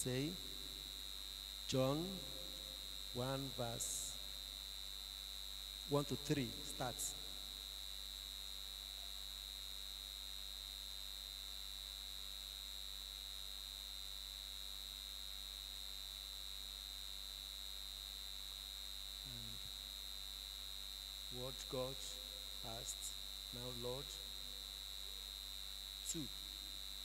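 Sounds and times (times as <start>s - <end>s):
high-pitched electrical whine: 0.0s - 27.0s
low mains hum: 0.0s - 27.0s.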